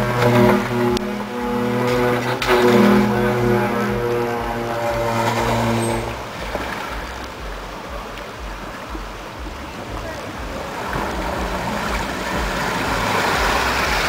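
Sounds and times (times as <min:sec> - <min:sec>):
engine running low: 0:00.0 - 0:14.0
steady humming tone: 0:00.0 - 0:14.0
water sloshing: 0:00.0 - 0:14.0.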